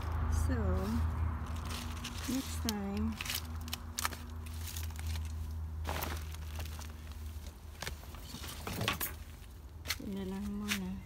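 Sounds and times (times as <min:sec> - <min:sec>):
rustles: 0:00.0 - 0:11.0.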